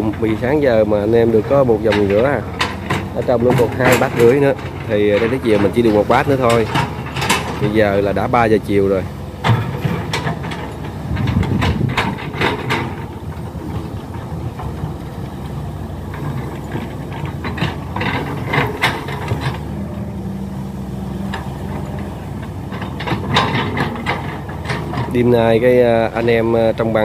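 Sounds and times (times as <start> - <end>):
excavator diesel engines humming: 0.0 - 27.0.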